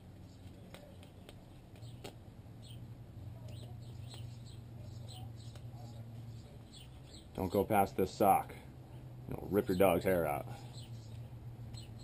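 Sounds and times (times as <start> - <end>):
low steady hum: 0.0 - 12.0
small bird chirping: 0.2 - 10.0, 10.6 - 12.0.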